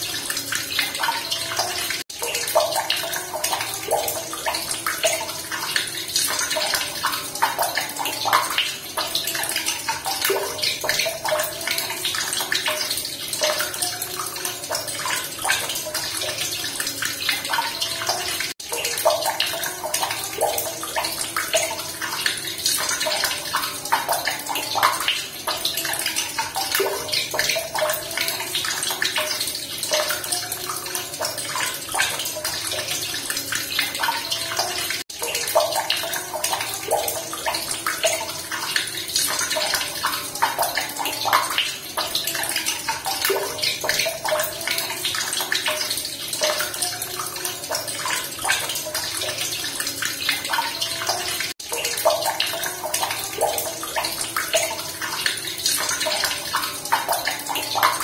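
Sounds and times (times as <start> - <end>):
running water splashing: 0.0 - 58.0.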